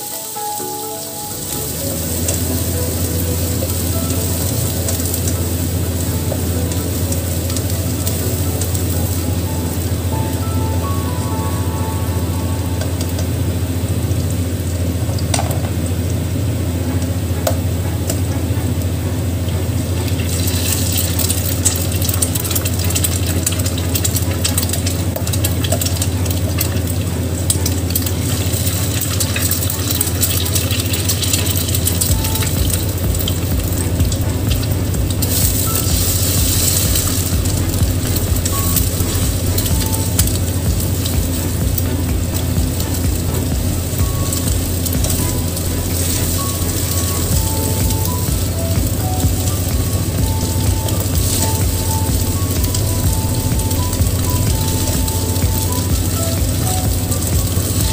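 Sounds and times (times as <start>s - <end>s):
vegetables sizzling in oil: 0.0s - 57.9s
low hum: 1.5s - 57.9s.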